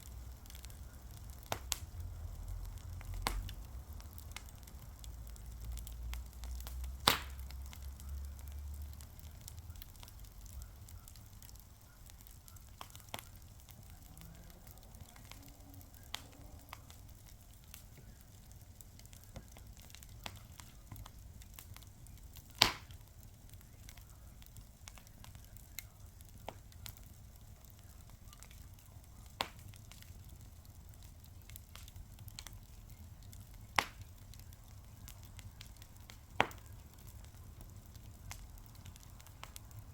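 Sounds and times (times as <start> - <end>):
fire crackling: 0.0 - 39.9
fire pops and snaps: 0.0 - 39.9.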